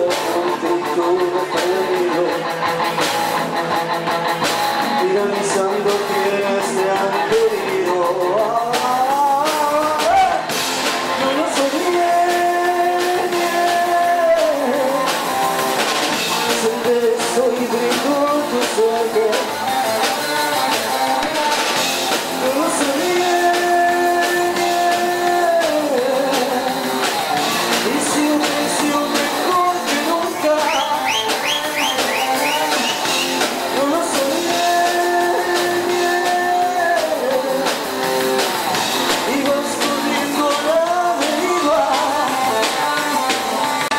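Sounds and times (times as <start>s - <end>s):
rock music with singing: 0.0s - 43.9s.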